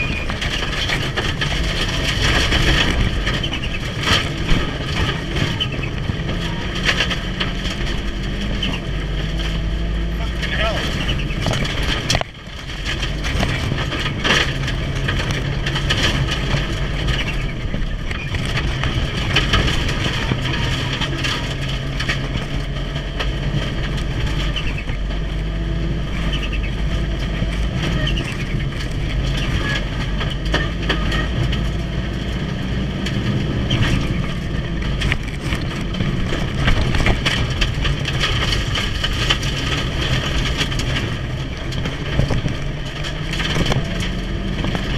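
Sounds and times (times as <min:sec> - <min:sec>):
car engine pulling hard: 0:00.0 - 0:44.9.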